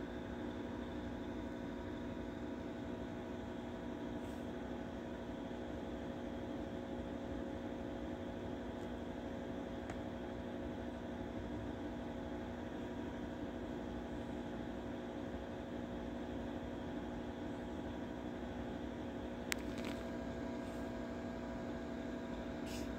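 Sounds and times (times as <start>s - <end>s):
machine hum with low tones: 0.0s - 22.9s.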